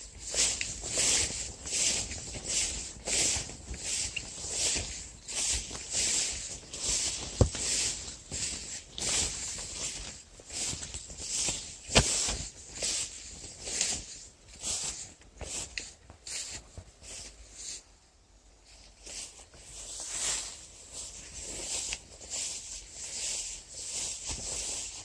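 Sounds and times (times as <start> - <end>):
dry leaves rustling: 0.0 - 16.6, 19.1 - 25.0.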